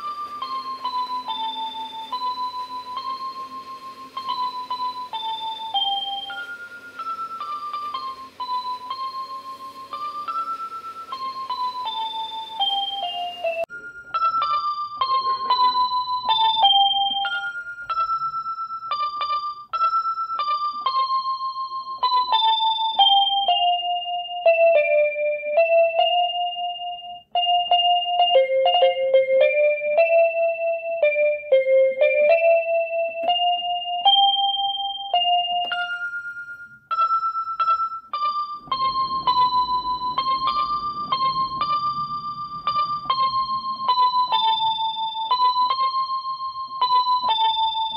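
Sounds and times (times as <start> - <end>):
gentle piano melody: 0.0 - 47.9.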